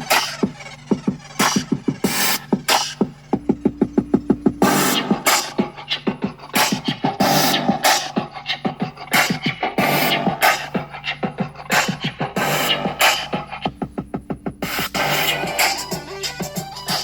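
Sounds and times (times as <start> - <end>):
dance music over car speakers: 0.0 - 17.0.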